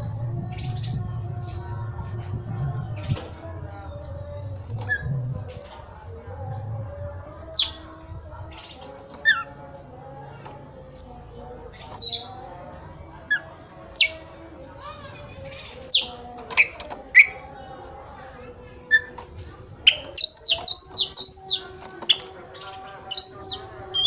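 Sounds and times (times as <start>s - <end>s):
low murmur: 0.0s - 24.0s.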